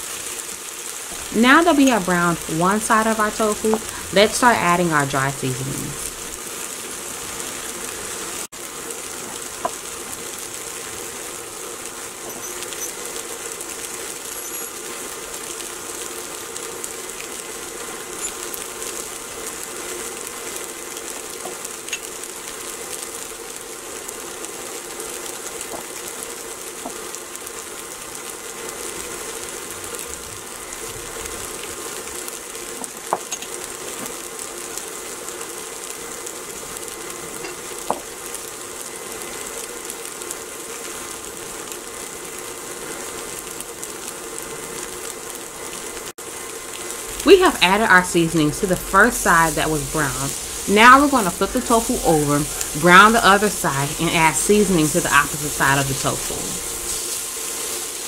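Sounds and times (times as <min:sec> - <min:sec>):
tofu sizzling in oil: 0:00.0 - 0:01.3, 0:06.0 - 0:58.0.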